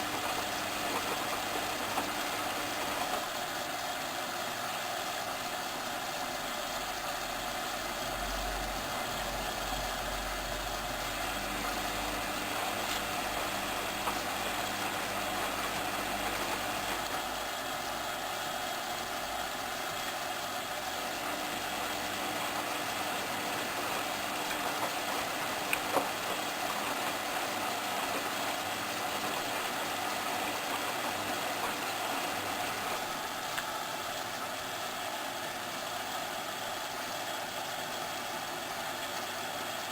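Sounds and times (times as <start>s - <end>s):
washing machine mechanical noise: 0.0s - 39.9s.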